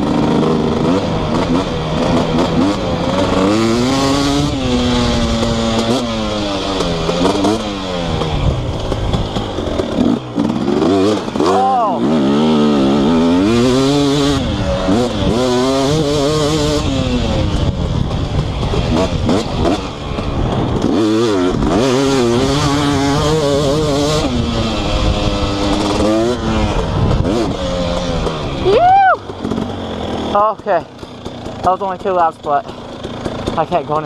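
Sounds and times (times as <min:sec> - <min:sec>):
two-stroke motorcycle engine revving: 0:00.0 - 0:34.0.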